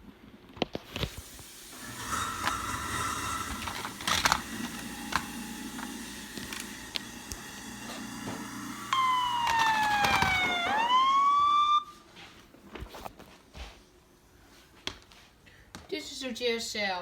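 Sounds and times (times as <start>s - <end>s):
steady background hum: 1.4s - 17.0s.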